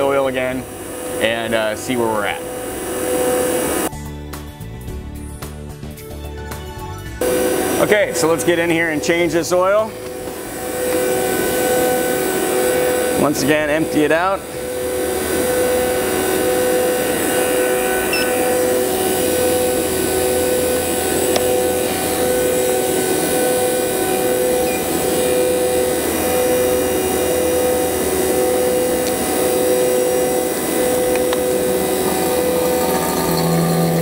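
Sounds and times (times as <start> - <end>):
vacuum pump motor humming: 0.0 - 3.9, 7.2 - 34.0.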